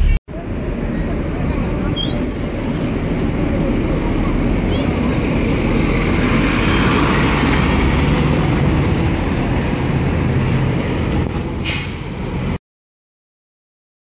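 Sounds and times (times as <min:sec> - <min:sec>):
bus engine rumbling: 0:00.0 - 0:12.6
street traffic: 0:00.0 - 0:12.6.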